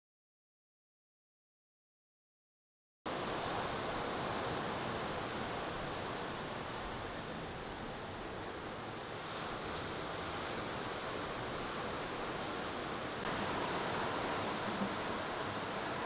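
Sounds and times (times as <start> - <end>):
surf breaking on beach: 3.1 - 16.0.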